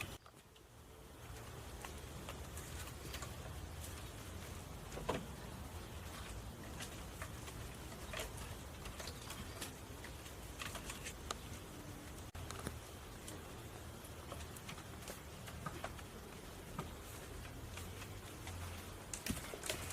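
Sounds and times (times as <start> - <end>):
dry grass rustling: 1.0 - 19.9.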